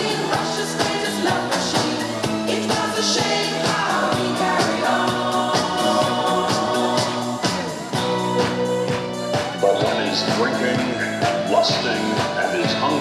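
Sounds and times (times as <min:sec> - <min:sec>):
dance music with steady beat: 0:00.0 - 0:13.0.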